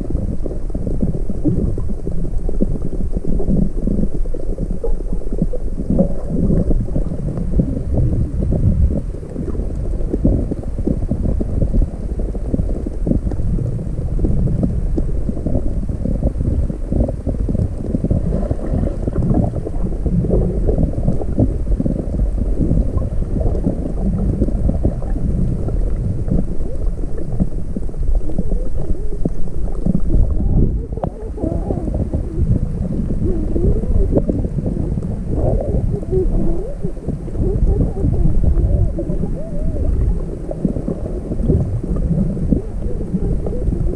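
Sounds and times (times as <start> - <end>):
muffled underwater rumble: 0.0 - 43.9.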